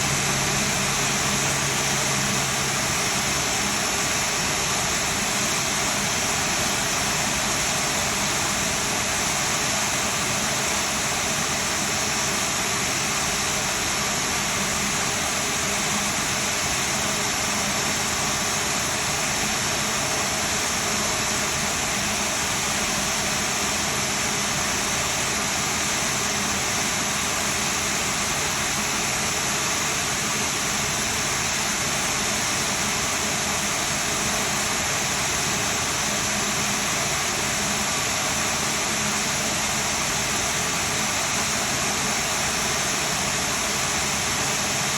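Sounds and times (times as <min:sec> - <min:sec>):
jet engine running with high hiss: 0:00.0 - 0:44.9.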